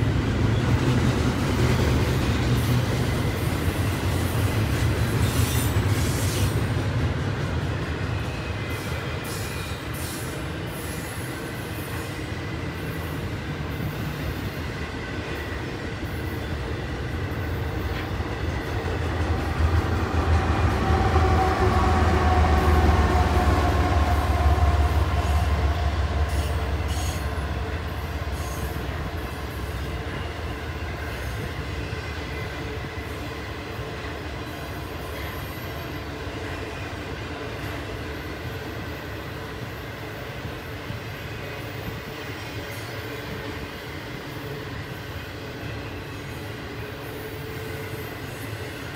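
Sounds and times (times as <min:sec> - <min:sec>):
diesel locomotive engine rumble: 0:00.0 - 0:48.9
train cars rumbling on rails: 0:00.0 - 0:48.9.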